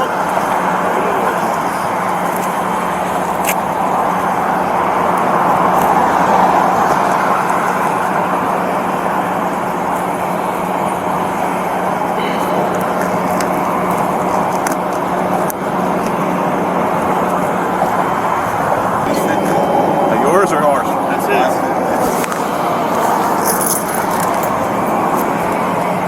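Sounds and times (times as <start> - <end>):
low constant hum: 0.0 - 26.0
road traffic noise: 0.0 - 26.0.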